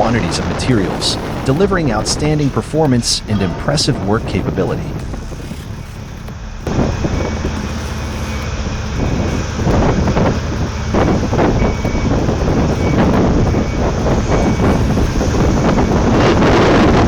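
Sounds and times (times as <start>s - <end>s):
heavy machinery engine rumble: 0.0s - 17.0s.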